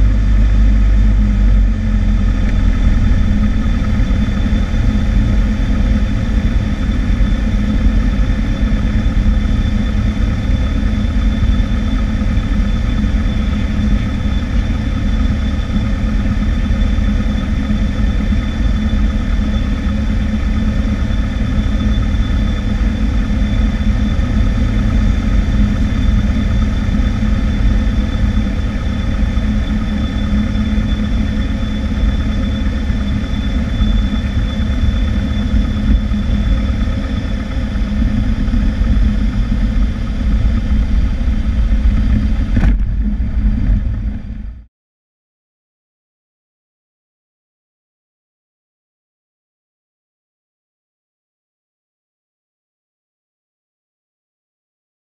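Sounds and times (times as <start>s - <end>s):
light aircraft engine and propeller: 0.0s - 44.7s.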